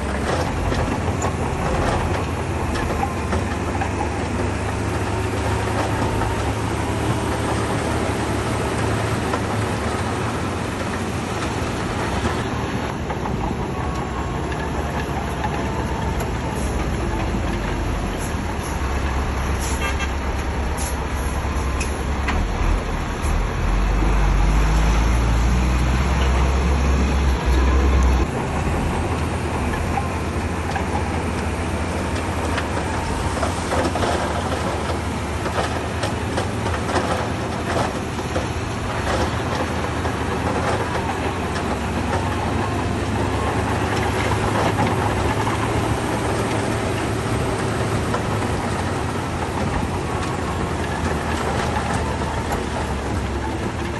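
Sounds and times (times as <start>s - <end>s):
bulldozer diesel engine rumbling: 0.0s - 53.9s
steel tracks and stones clanking: 0.0s - 53.9s.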